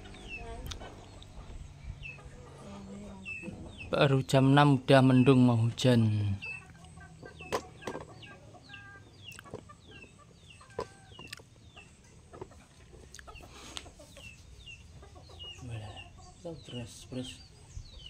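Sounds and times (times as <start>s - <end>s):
chickens chirping: 0.0s - 18.0s.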